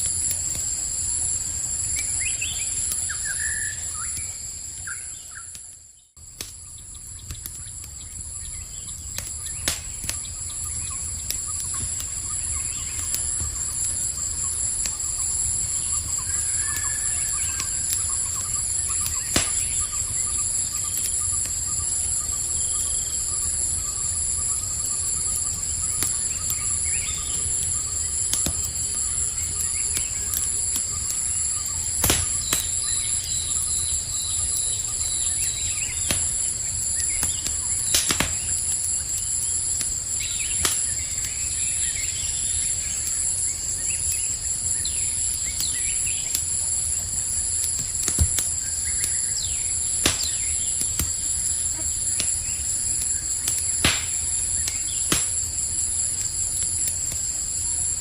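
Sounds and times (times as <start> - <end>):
campfire crackling and popping: 0.0 - 58.0
crickets chirring: 0.0 - 58.0.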